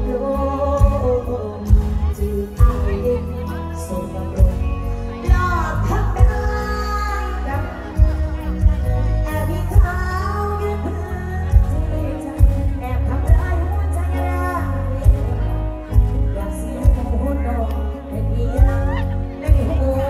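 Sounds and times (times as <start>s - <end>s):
live band music: 0.0s - 20.0s
woman singing: 0.0s - 20.0s.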